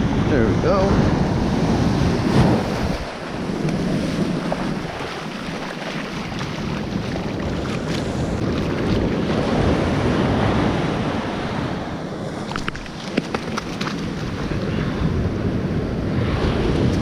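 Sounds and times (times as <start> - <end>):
ocean surf washing up beach: 0.0 - 17.0
wind rumbling on microphone: 0.0 - 17.0.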